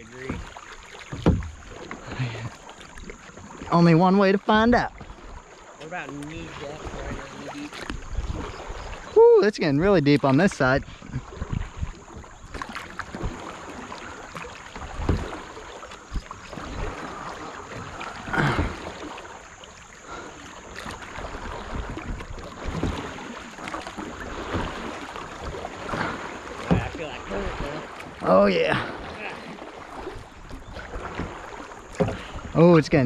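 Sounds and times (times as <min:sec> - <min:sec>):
moving water wash: 0:00.0 - 0:33.0
paddle splashing in water: 0:00.0 - 0:33.0.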